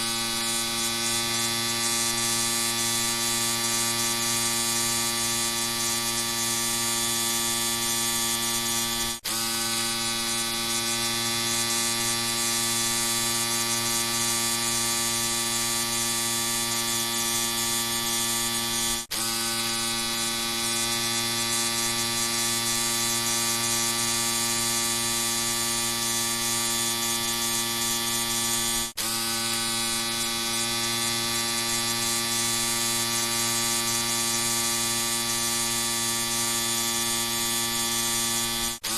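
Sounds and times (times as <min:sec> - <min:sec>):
electric shaver buzzing: 0:00.0 - 0:38.9.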